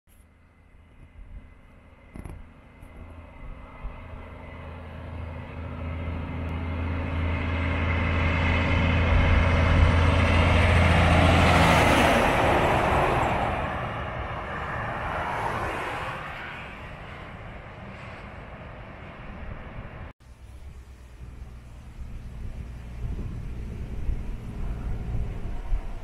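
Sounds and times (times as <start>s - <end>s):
heavy truck driving past: 1.8s - 26.0s.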